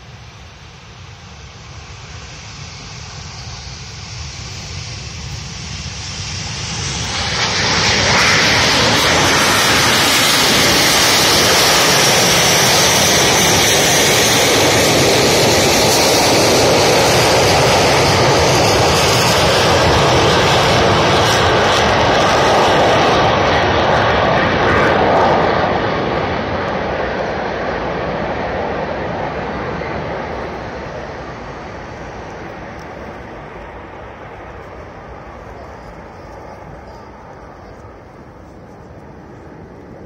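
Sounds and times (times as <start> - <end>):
jet engines roaring: 0.0 - 40.0.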